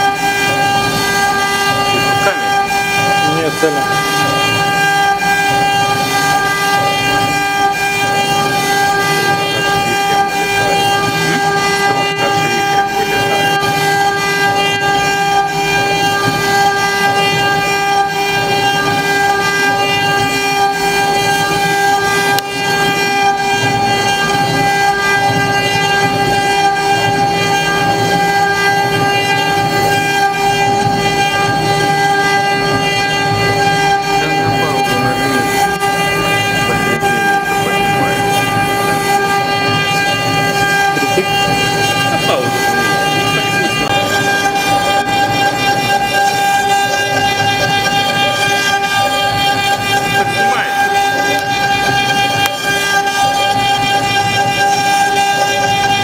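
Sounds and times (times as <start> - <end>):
router cutting wood: 0.0 - 56.0
spindle high-pitched whine: 0.0 - 56.0.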